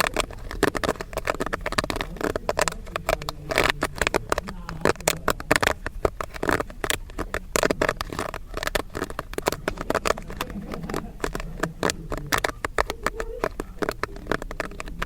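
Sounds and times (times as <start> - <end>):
low steady hum: 0.0 - 15.0
popcorn kernels popping: 0.0 - 15.0.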